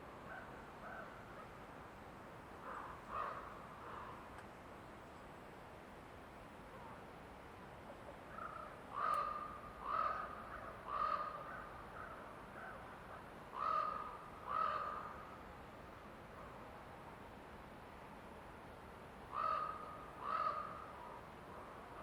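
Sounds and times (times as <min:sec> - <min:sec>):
faint background hiss: 0:00.0 - 0:22.0.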